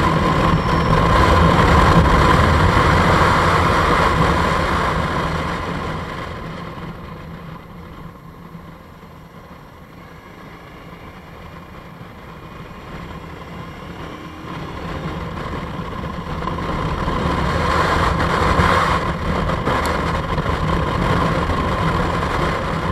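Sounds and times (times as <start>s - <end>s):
motorcycle engine running: 0.0s - 22.9s
wind rush on microphone: 0.0s - 22.9s.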